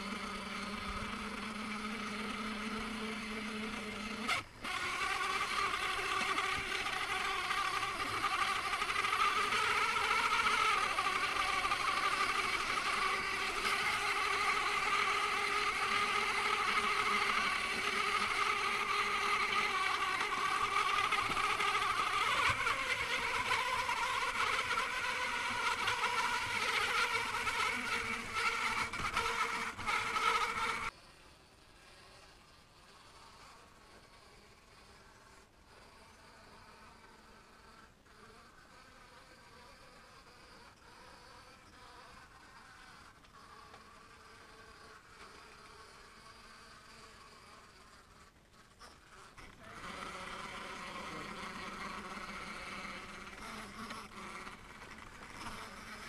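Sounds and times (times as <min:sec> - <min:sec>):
electric motor whine: 0:00.0 - 0:56.0.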